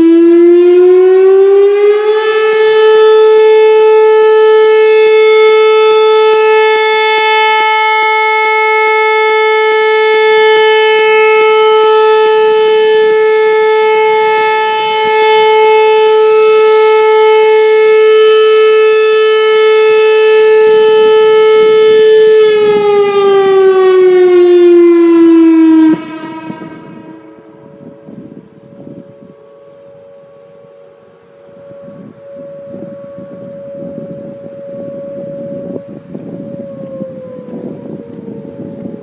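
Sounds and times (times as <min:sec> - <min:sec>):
outdoor warning siren tone: 0:00.0 - 0:39.0.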